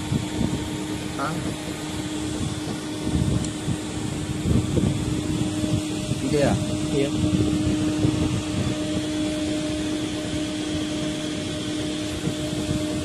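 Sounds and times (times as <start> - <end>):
machine droning hum: 0.0 - 13.0.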